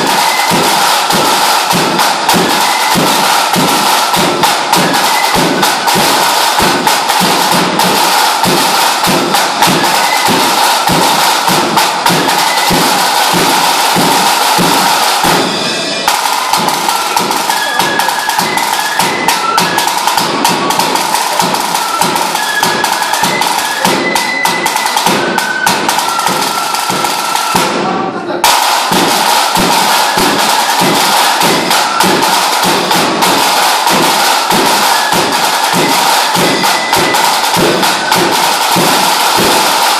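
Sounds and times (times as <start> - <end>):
large drum beaten with canes: 0.0 - 39.9.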